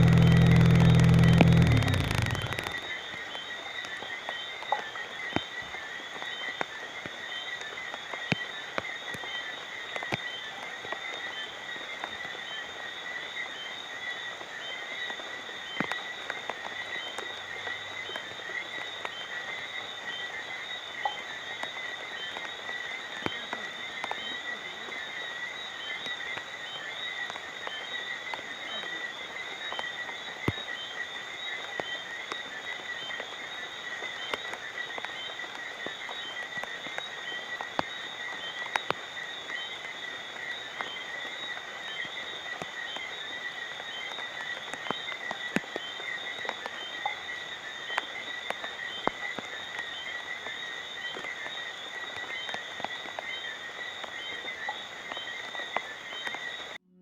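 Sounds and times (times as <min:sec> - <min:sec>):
frogs calling: 0:00.0 - 0:56.8
rain drops dripping: 0:00.0 - 0:56.8.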